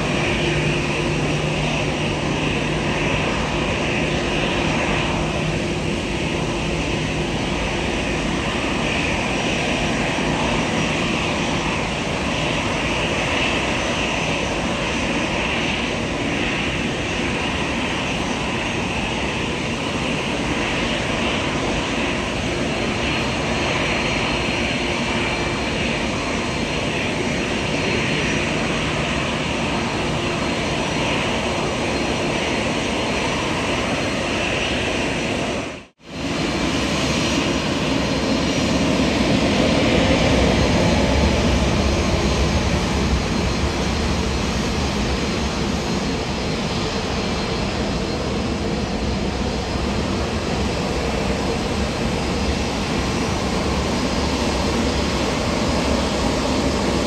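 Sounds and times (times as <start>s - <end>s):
airliner engines running: 0.0s - 57.0s.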